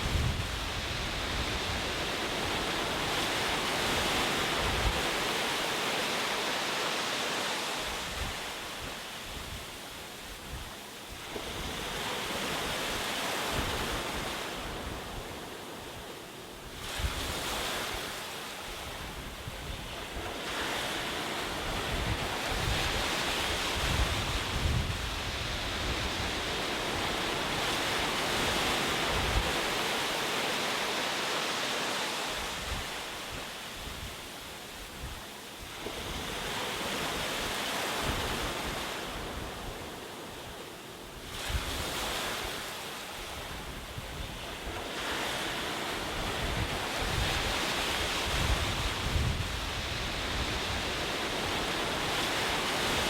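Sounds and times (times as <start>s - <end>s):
waves breaking on shore: 0.0s - 53.0s.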